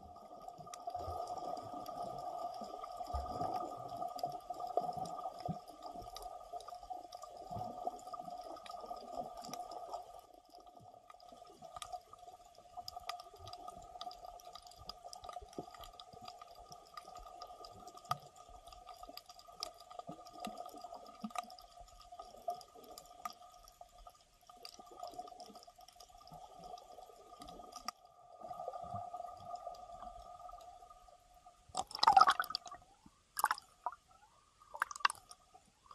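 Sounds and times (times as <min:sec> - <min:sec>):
small underwater clicks and crackles: 0:00.0 - 0:35.9
steady underwater hum: 0:00.0 - 0:35.9.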